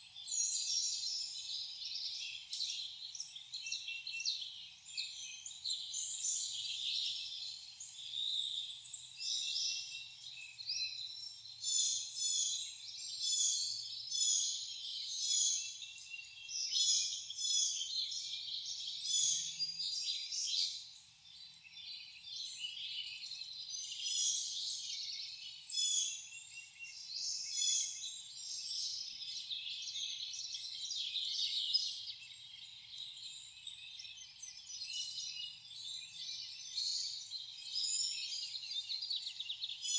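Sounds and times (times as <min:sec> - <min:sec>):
birds chirping and singing: 0:00.2 - 0:39.9.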